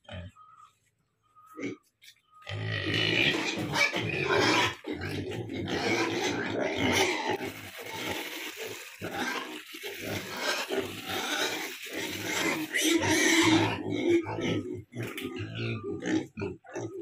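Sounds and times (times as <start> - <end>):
pigs grunting: 0.0 - 0.7, 1.4 - 17.0.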